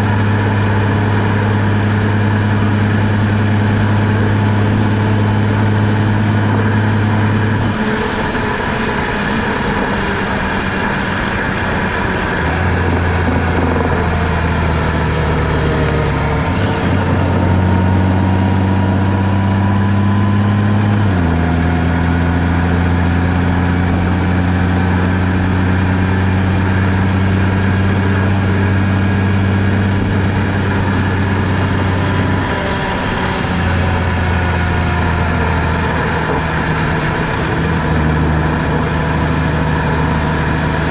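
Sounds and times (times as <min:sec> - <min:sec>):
car engine hum: 0:00.0 - 0:40.9
road noise: 0:00.0 - 0:40.9.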